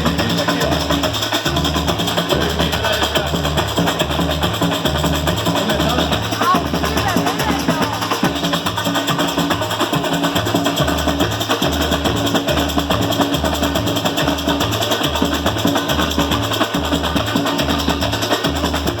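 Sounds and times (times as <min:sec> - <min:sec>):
snare drums rattling: 0:00.0 - 0:19.0.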